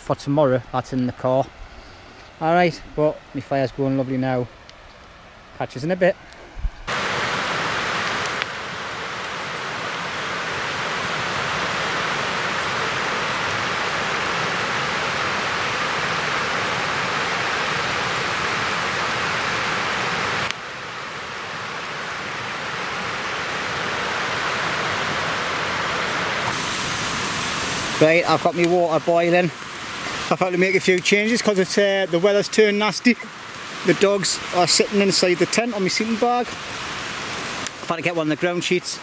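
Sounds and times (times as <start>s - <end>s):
running water rushing: 0.0s - 39.0s.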